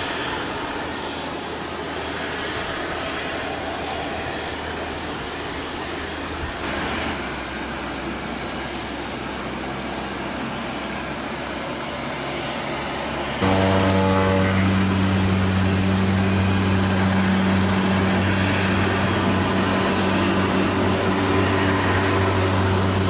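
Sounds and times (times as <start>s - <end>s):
heavy rain hiss: 0.0s - 23.0s
turboprop engine running: 0.0s - 23.0s.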